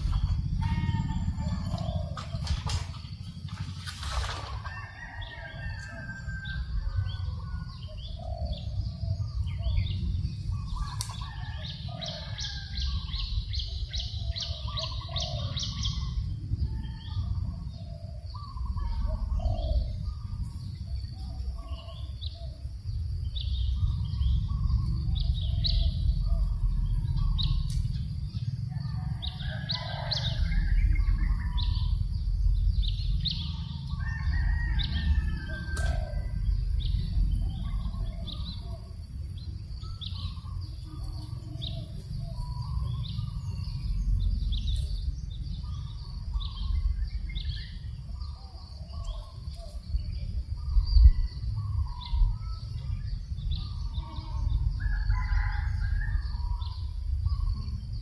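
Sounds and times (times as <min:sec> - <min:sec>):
birds chirping and calling: 0:00.0 - 0:58.0
wind rumble on microphone: 0:00.0 - 0:58.0.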